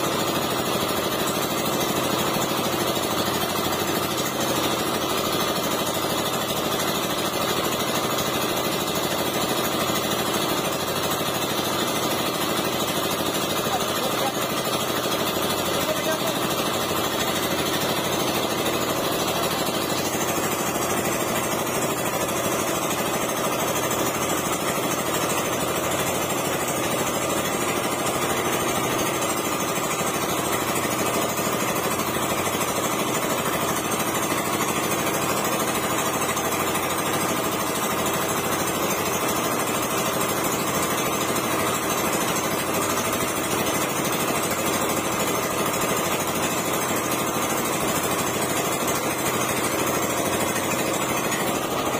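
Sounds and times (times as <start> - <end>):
small boat engine running: 0.0 - 51.9.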